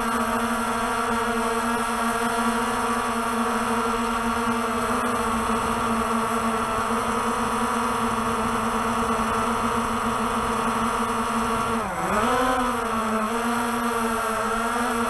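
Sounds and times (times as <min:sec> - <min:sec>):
drone rotors humming high-pitched: 0:00.0 - 0:15.0.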